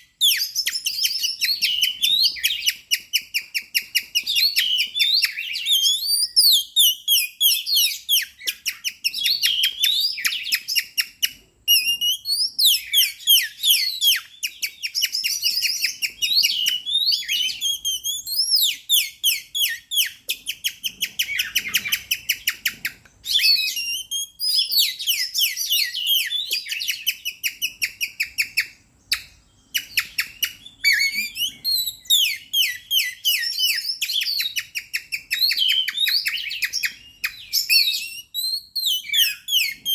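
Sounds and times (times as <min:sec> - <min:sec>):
bird singing trills: 0:00.0 - 0:39.9.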